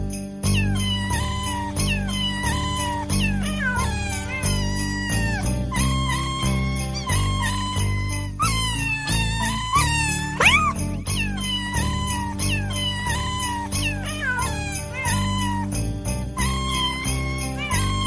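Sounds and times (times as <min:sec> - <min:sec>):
cat meowing: 0:00.5 - 0:15.7, 0:16.4 - 0:18.0.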